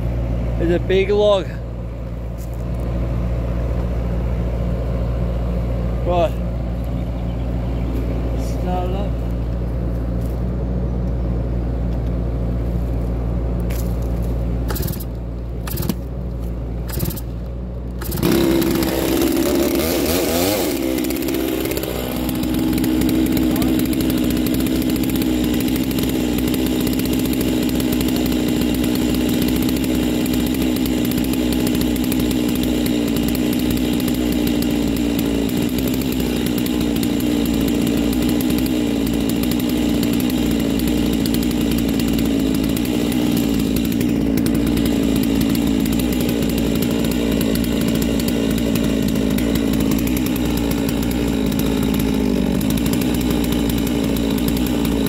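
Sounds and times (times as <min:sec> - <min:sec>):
chainsaw cutting through log: 0:00.0 - 0:06.7, 0:07.5 - 0:10.5, 0:13.6 - 0:55.0.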